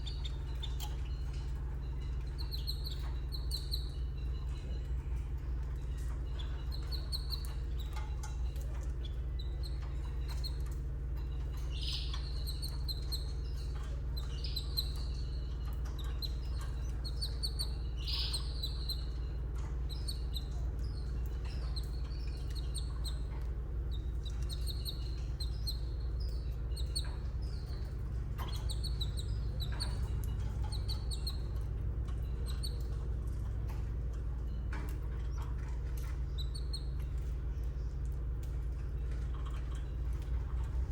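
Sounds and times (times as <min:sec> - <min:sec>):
canaries chirping: 0:00.0 - 0:33.8, 0:34.5 - 0:37.3
steady low hum: 0:00.0 - 0:40.9.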